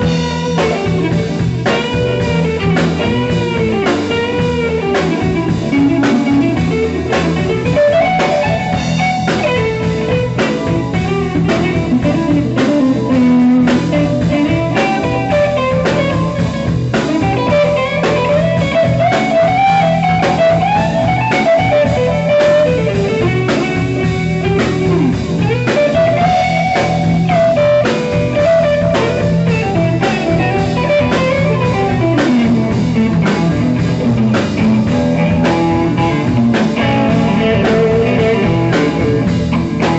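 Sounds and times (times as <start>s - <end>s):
blues band playing live: 0.0s - 39.9s
drums: 0.0s - 39.9s
electric guitar solo: 0.0s - 39.9s.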